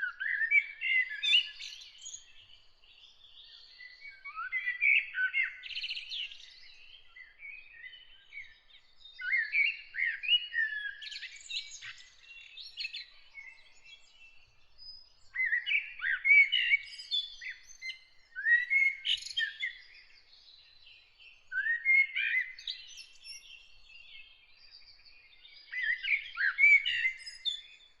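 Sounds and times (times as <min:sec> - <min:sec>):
songbird chirps and warbles: 0:00.0 - 0:28.0.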